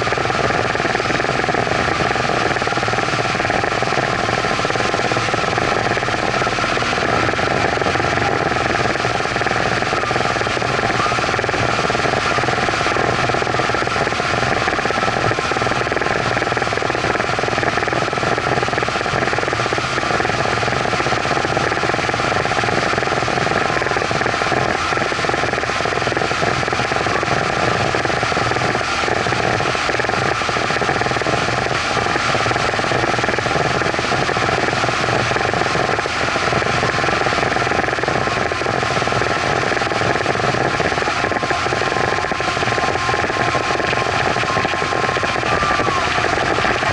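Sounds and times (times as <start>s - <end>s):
outboard motor drone: 0.0s - 46.9s.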